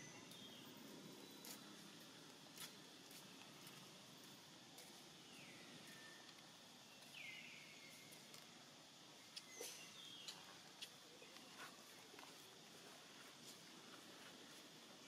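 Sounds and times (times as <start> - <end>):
faint forest ambience: 0.0 - 15.0.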